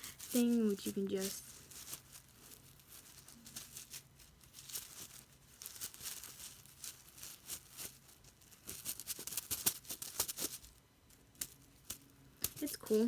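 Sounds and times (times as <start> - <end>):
bean bag toy crinkling: 0.0 - 13.0.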